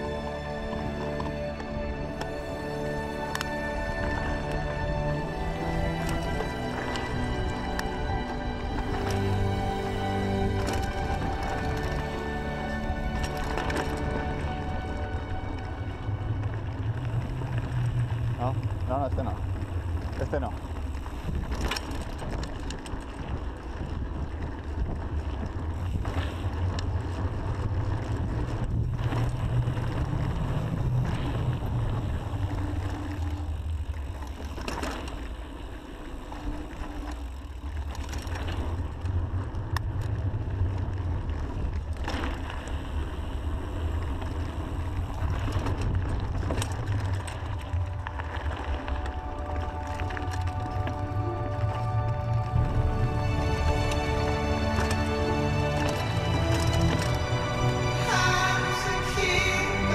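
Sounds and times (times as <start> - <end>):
bike rattling over bumps: 0.0 - 59.9
bike tyres on gravel: 0.0 - 59.9.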